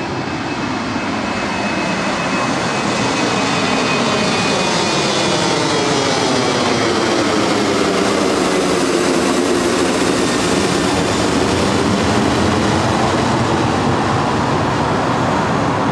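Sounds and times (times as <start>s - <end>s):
jet engines roaring overhead: 0.0s - 15.9s.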